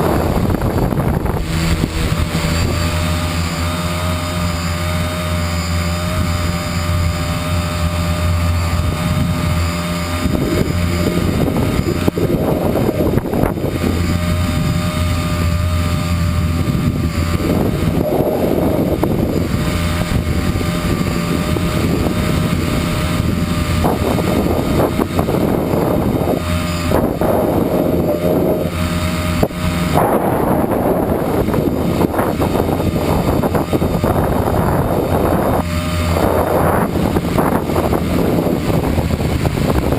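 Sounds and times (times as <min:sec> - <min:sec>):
drone motors humming: 0:00.0 - 0:39.9
wind on microphone: 0:00.0 - 0:39.9.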